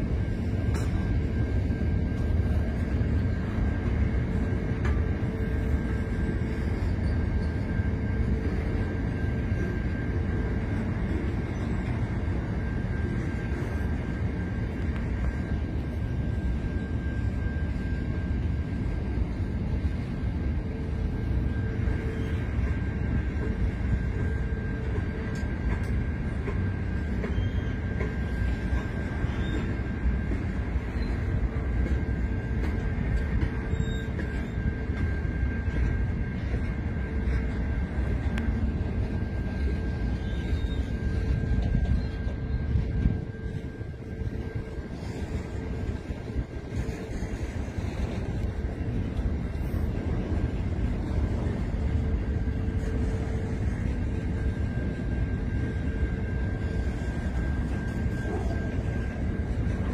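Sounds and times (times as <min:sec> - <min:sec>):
faint high whine: 0:00.0 - 0:59.9
freight train wheels rumbling: 0:00.0 - 0:59.9.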